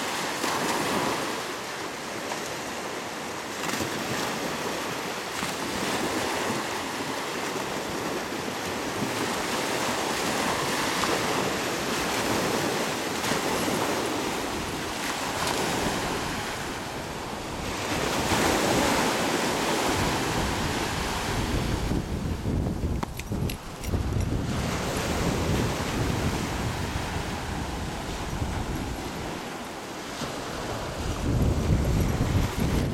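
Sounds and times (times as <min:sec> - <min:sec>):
surf breaking on sand: 0:03.5 - 0:32.9
wind buffeting microphone: 0:05.6 - 0:32.9.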